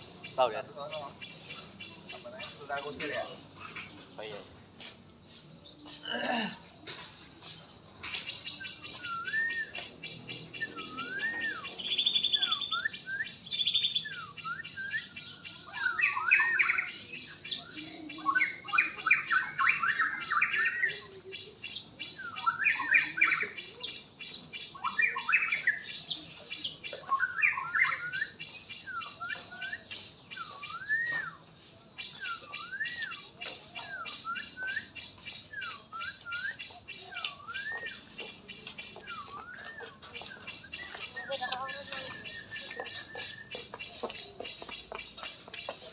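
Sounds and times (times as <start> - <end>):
songbird whistled notes: 0.0 - 6.0, 7.0 - 45.9
bird chattering calls: 0.0 - 45.9.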